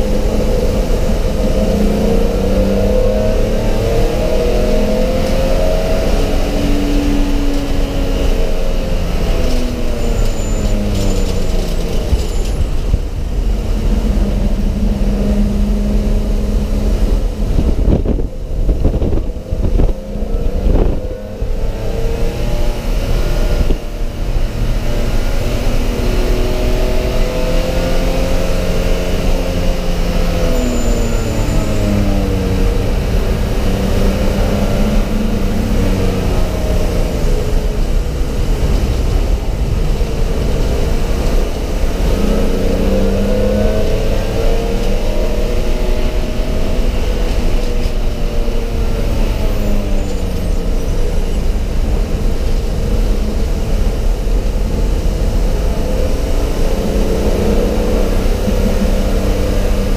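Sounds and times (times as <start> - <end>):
race car engine accelerating: 0.0 - 59.9
road and wind noise: 0.0 - 59.9.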